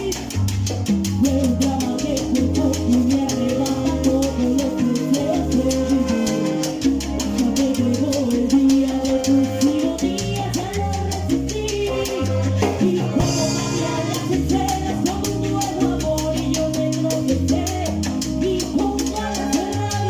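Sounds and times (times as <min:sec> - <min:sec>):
salsa band playing: 0:00.0 - 0:20.0.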